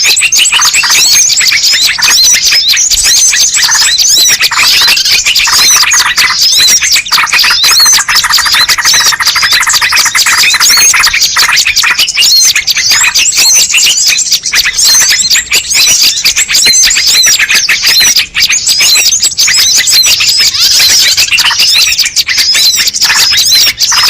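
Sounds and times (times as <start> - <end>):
many small birds chirping: 0.0 - 24.0.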